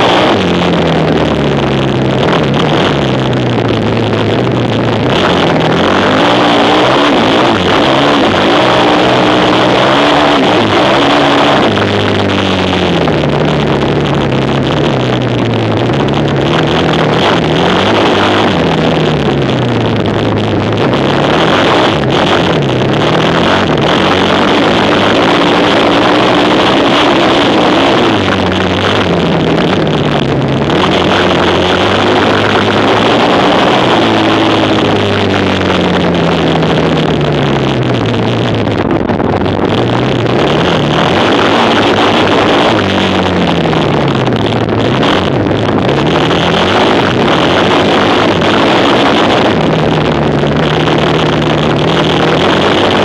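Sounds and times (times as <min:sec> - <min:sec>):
quad bike engines revving: 0:00.0 - 0:53.0.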